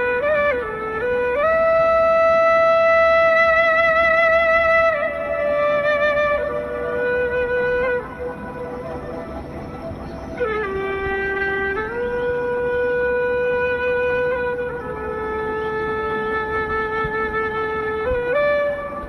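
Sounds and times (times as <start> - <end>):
wind instrument long notes: 0.0 - 19.0.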